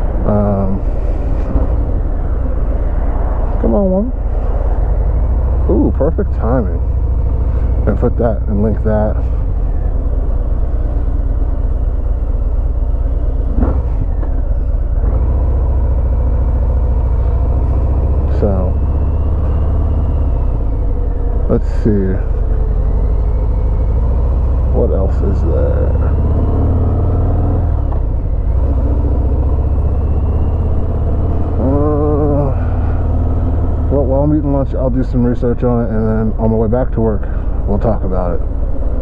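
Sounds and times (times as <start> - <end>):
motorcycle engine rumbling: 0.0 - 39.0.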